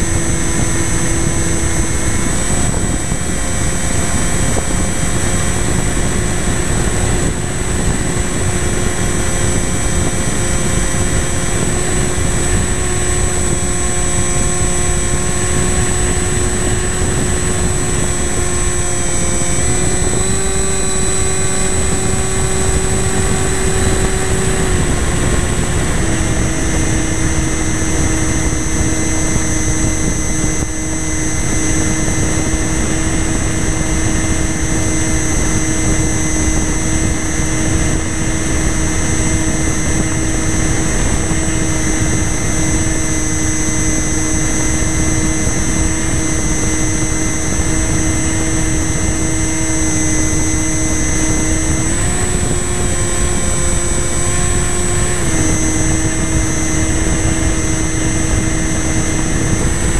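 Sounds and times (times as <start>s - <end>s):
model plane motor humming: 0.0s - 59.9s.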